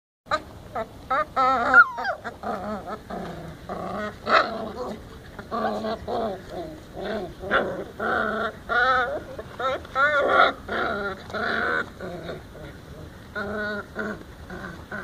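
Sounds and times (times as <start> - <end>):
puppies whining and yelping: 0.3 - 15.0.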